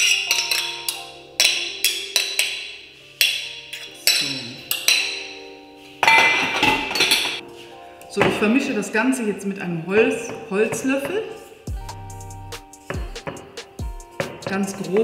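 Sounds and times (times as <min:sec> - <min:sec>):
plucked-sounding background music: 0:00.0 - 0:15.0.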